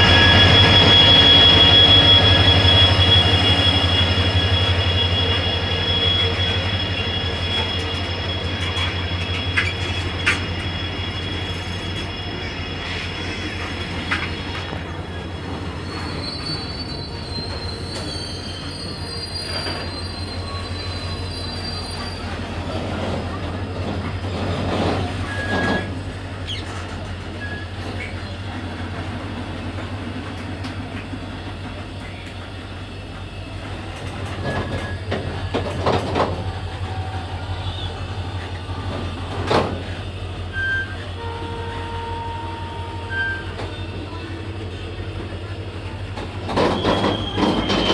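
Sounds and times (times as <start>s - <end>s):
wheel squeals: 0.0s - 29.6s, 33.6s - 47.9s
freight train wheels rumbling: 0.0s - 47.9s.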